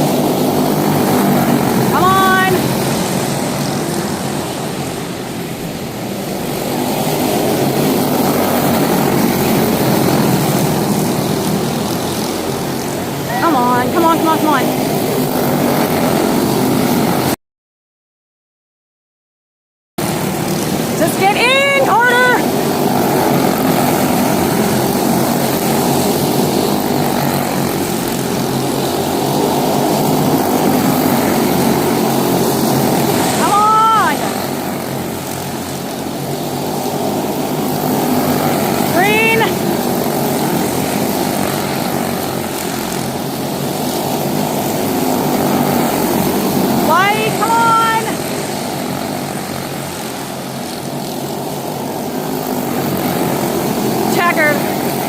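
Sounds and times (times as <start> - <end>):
race car engines at speed: 0.0 - 17.3, 20.0 - 55.0.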